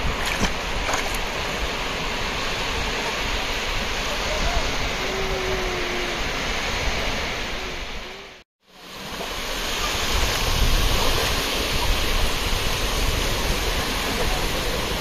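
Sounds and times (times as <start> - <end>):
sea surf breaking on beach: 0.0 - 15.0.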